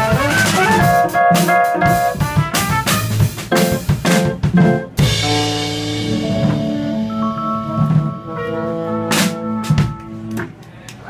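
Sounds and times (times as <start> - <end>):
drum and cymbal hits: 0.0 - 8.3, 9.1 - 10.1
small jazz group playing: 0.0 - 11.0.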